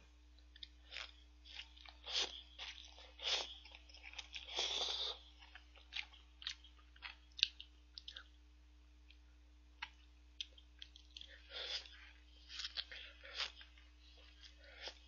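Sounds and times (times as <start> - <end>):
chewing: 0.5 - 8.4, 9.8 - 15.0.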